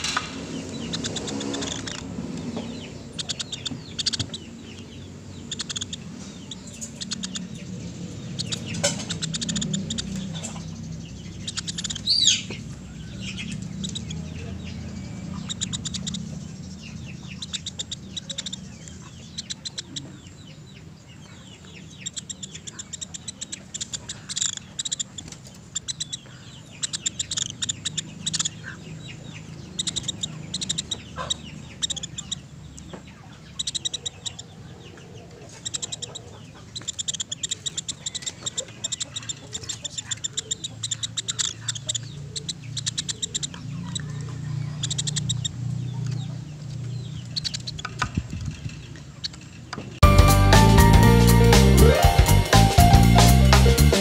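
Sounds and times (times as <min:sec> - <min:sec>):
woodpecker calling: 0:00.0 - 0:51.6.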